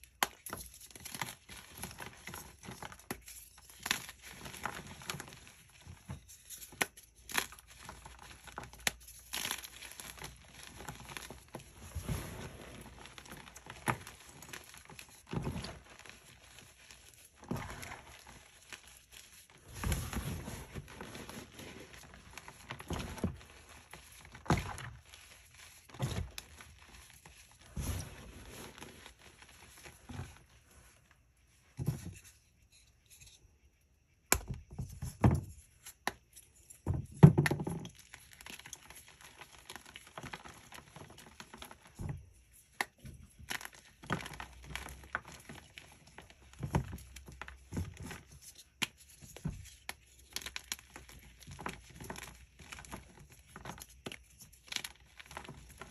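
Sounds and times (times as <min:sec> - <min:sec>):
hands crushing powdery chalk: 0:00.0 - 0:31.9, 0:34.1 - 0:55.9
chalk crumbling crackles: 0:00.1 - 0:31.2, 0:38.0 - 0:55.9.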